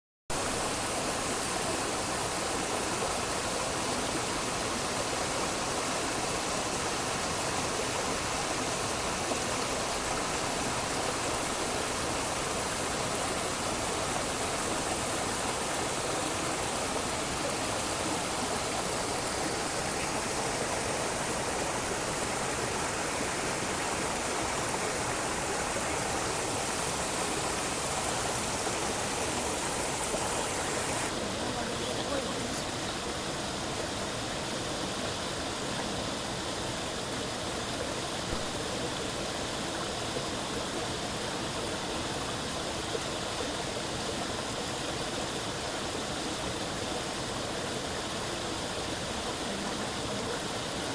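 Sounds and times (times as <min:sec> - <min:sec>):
running water rushing: 0:00.3 - 0:50.9.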